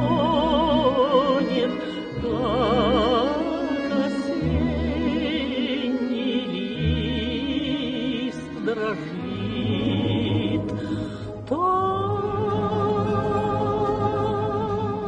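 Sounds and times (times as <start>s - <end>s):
woman singing with vibrato: 0.0s - 15.0s.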